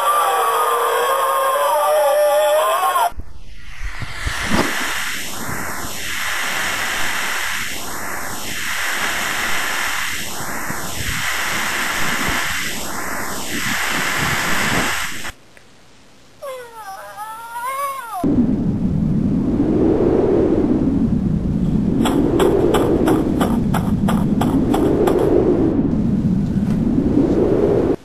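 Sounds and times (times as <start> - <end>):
hissing noise with phaser effect: 0.0 - 15.4, 18.2 - 25.8.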